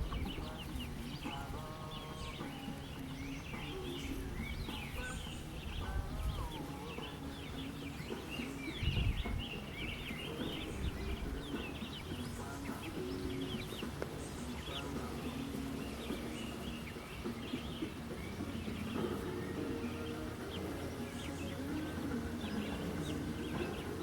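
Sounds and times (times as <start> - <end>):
chickens clucking: 0.0 - 24.0
high bird chirps: 0.0 - 24.0.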